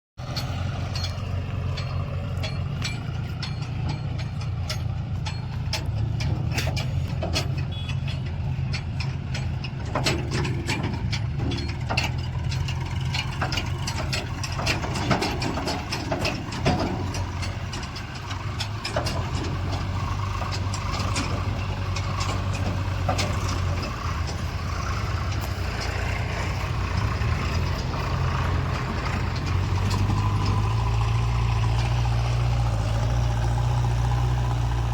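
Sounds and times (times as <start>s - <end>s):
diesel engines running: 0.2s - 34.9s
metal knocks and clanks: 0.2s - 34.9s.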